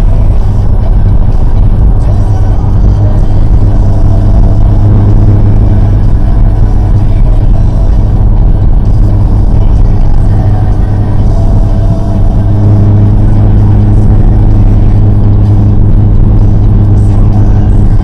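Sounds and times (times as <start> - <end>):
car engine and tyres drone: 0.0 - 18.0.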